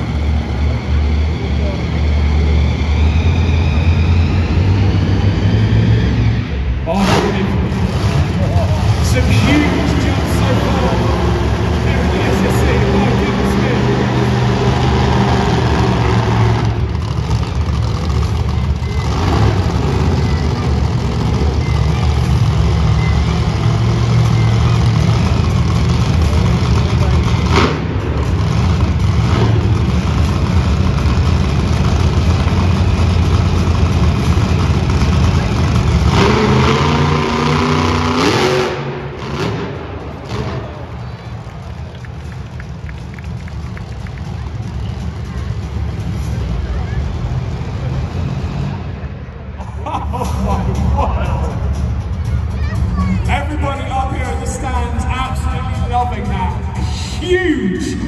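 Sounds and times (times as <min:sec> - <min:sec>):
monster truck engine running: 0:00.0 - 0:58.0.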